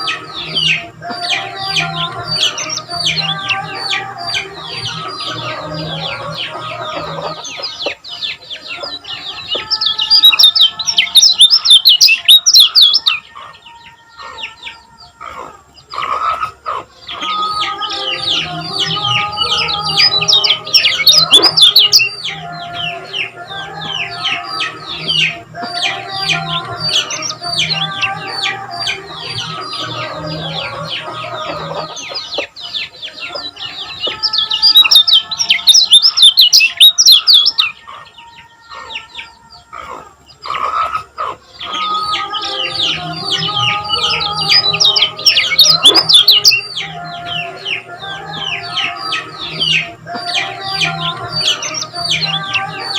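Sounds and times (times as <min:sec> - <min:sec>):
bird chirping song: 0:00.0 - 0:52.9.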